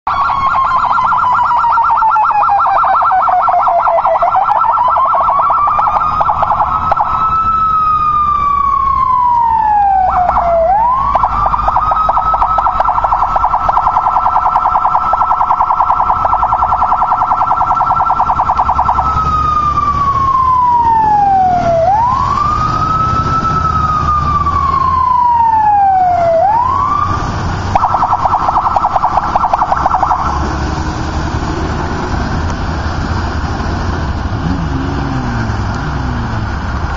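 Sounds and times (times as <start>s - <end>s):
motorcycle siren wailing: 0.0s - 32.2s
low vehicle rumble: 0.1s - 36.9s.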